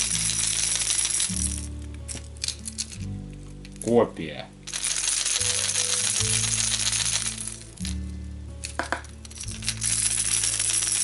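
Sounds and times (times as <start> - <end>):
fishing lure rattling: 0.0 - 3.9, 4.7 - 11.0
background music: 0.0 - 11.0.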